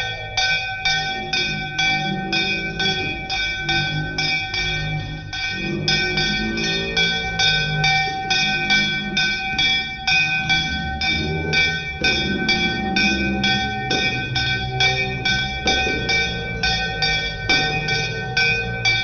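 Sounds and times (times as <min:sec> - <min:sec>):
bell ringing: 0:00.0 - 0:19.0
voices singing: 0:00.0 - 0:19.0.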